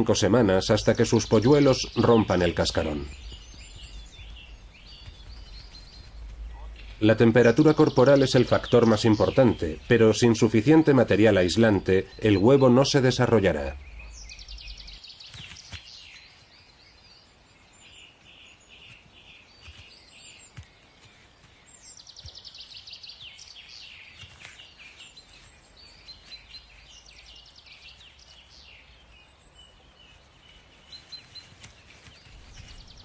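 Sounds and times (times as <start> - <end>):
faint outdoor background: 0.0 - 33.0
songbirds trilling: 0.0 - 33.0.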